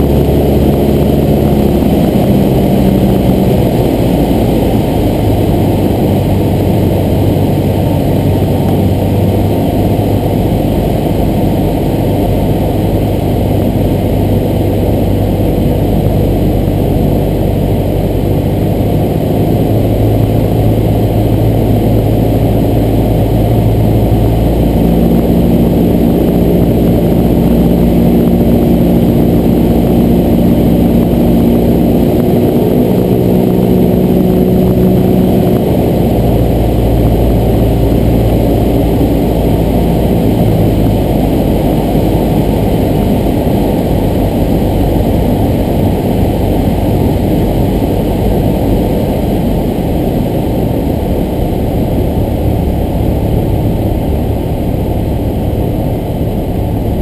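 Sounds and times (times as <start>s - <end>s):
propeller plane cabin drone: 0.0s - 57.0s.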